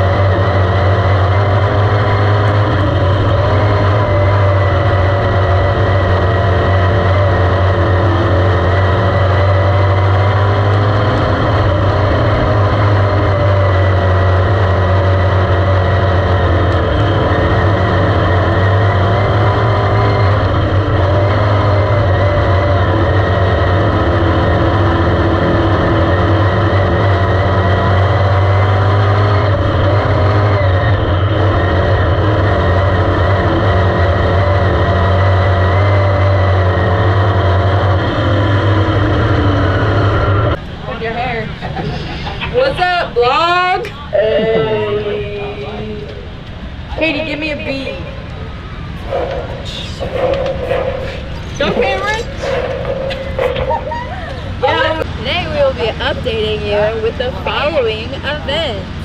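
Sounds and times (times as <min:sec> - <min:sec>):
race car engine running hard: 0:00.0 - 0:59.0.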